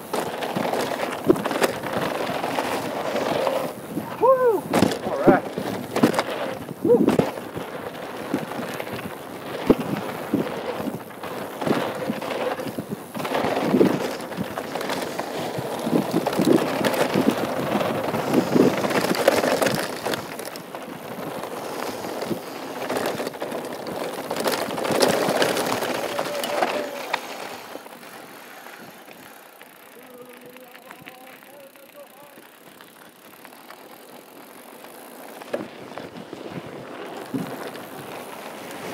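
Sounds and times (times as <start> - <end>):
bike tyres rolling on gravel: 0.0 - 38.9.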